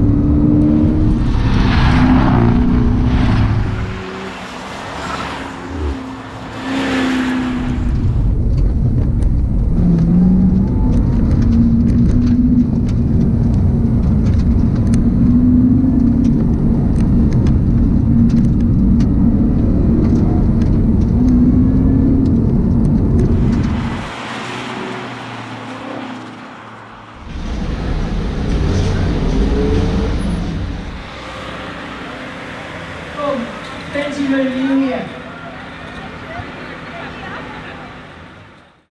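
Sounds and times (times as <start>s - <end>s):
tyre and road rumble: 0.0s - 38.8s.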